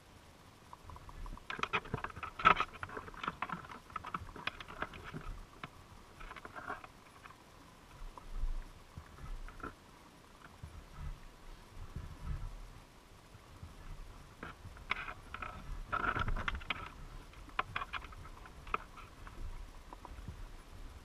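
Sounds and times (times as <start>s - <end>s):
underwater clicks and crackles: 0.6s - 21.0s.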